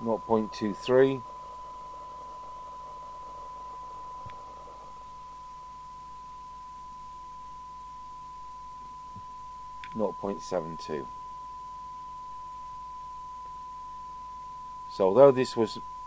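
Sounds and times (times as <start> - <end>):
steady test tone: 0.0 - 16.0.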